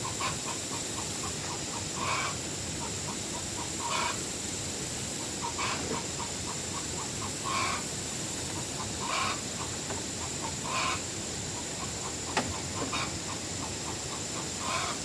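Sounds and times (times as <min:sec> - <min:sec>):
bird calling: 0:00.0 - 0:04.2, 0:05.4 - 0:07.9, 0:08.6 - 0:15.0.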